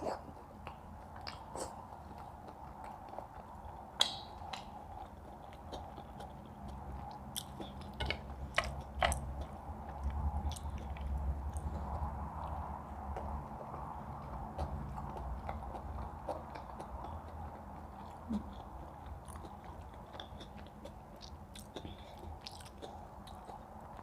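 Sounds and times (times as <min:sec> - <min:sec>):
chewing and biting: 0:00.0 - 0:24.0
low steady hum: 0:00.0 - 0:24.0.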